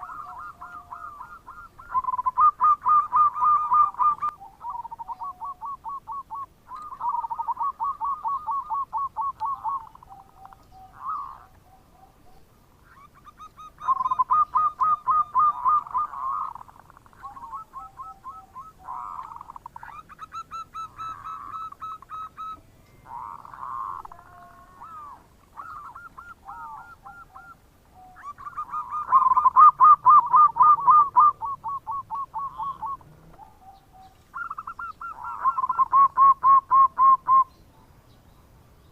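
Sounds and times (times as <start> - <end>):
dove cooing: 0.0 - 37.6.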